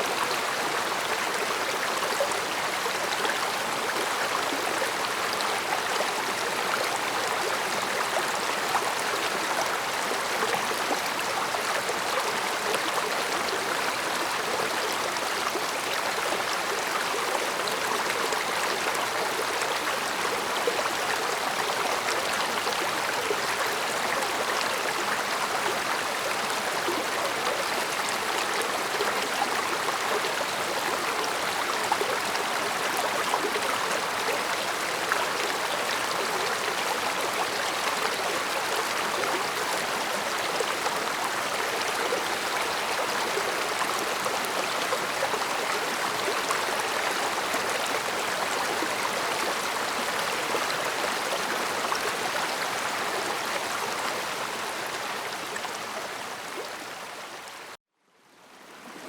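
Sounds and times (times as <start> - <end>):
stream flowing over stones: 0.0 - 57.7.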